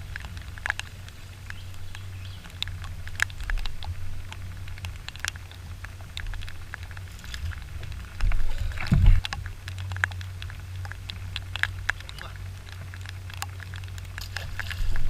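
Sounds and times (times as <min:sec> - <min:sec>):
low steady hum: 0:00.0 - 0:15.0
raindrops tapping: 0:00.0 - 0:15.0.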